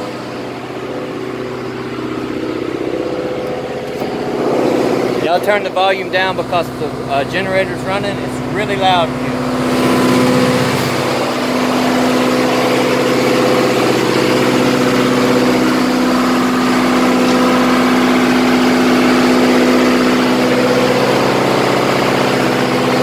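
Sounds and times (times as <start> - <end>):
generator engine running: 0.0 - 23.0.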